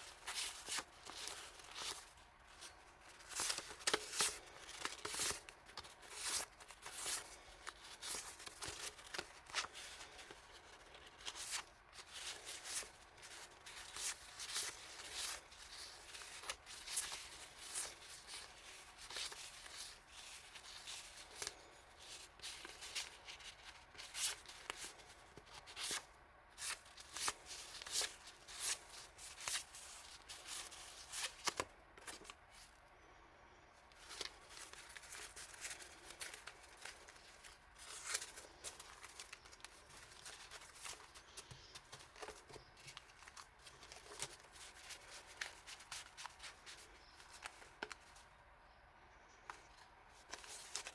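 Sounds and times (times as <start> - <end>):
paper packaging rustling: 0.0 - 32.8, 33.9 - 48.3, 49.5 - 50.9.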